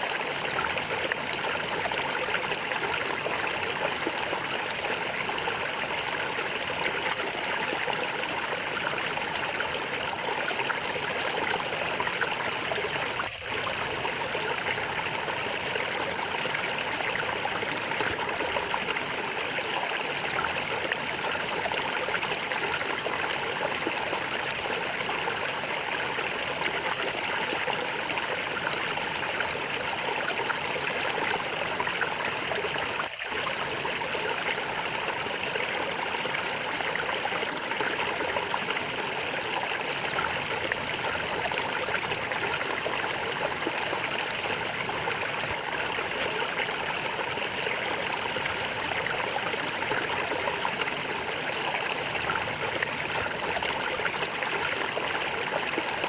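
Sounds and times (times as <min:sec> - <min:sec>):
water gurgling and trickling: 0:00.0 - 0:56.0.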